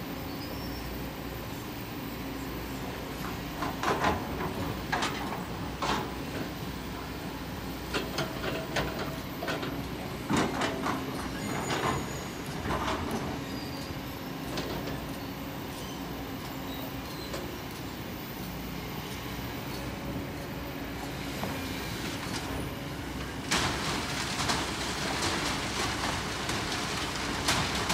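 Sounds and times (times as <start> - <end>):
excavator diesel engine running: 2.8 - 27.9.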